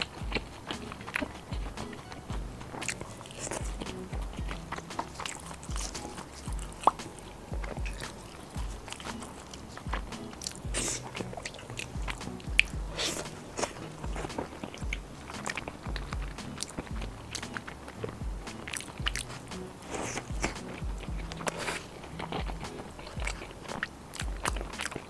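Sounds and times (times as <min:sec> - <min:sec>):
close chewing and biting: 0:00.0 - 0:25.0
music with low beat: 0:00.0 - 0:25.0.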